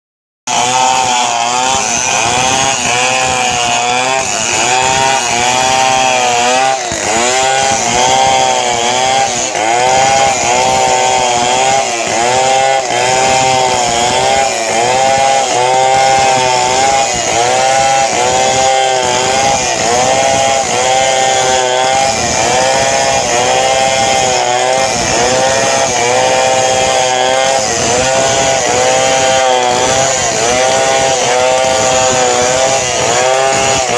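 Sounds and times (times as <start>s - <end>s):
chainsaw cutting wood: 0.5s - 33.9s.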